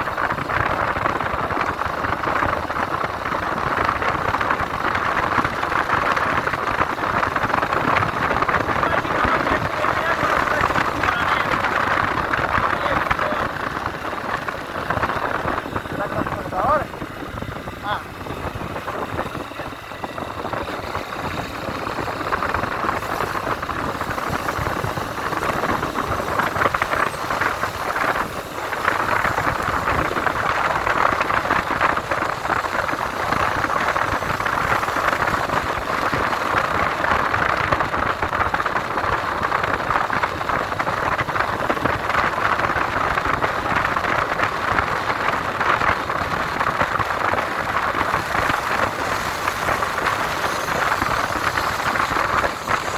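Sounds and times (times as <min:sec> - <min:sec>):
motorcycle engine running: 0:00.0 - 0:52.9
wind noise: 0:00.0 - 0:52.9.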